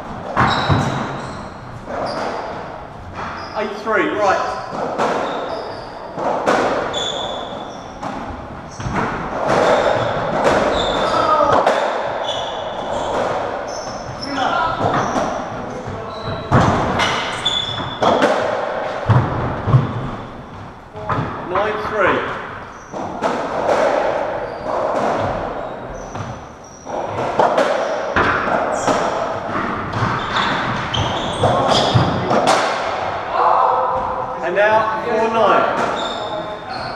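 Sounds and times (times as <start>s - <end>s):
shoes squeaking on wooden floor: 0.2s - 32.6s, 35.2s - 36.9s.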